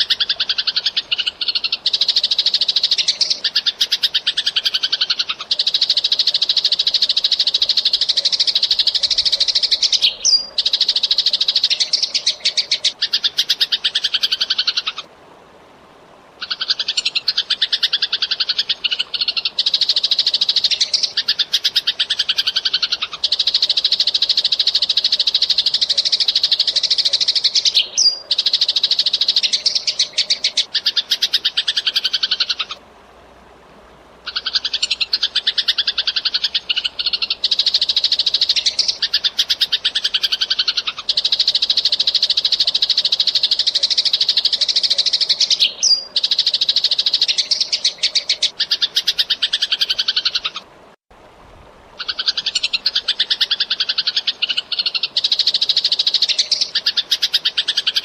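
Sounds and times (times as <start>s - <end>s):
sparrow chirping rapidly: 0.0s - 15.0s, 16.5s - 32.8s, 34.3s - 50.6s.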